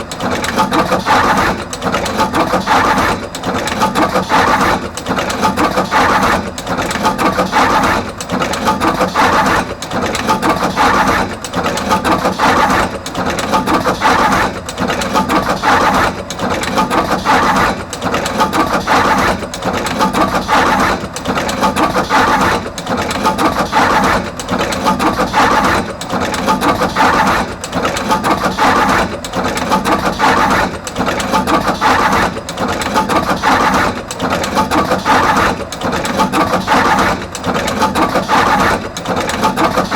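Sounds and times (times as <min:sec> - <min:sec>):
crimping machine clattering: 0:00.0 - 0:39.9.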